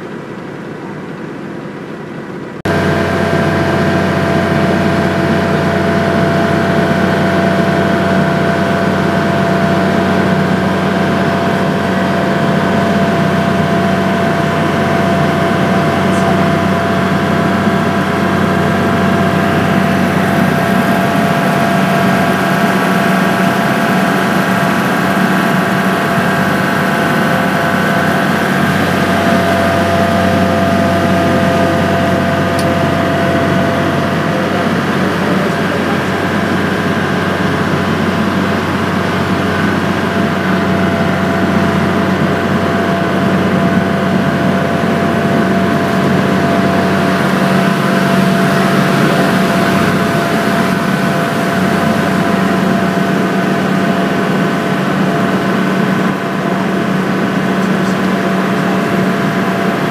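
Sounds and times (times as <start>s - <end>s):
ferry engine droning: 0.0s - 59.9s.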